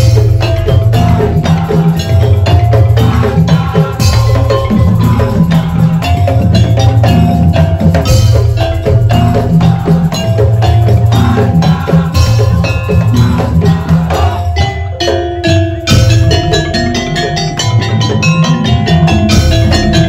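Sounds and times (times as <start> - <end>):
percussion music: 0.0 - 20.0
pitched mallet percussion: 0.0 - 20.0
wooden slit drums: 0.0 - 20.0.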